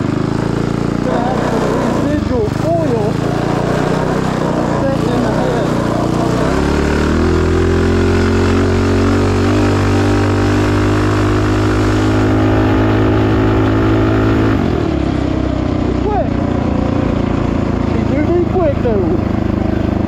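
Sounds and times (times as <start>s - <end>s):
minibike engine revving: 0.0s - 20.0s.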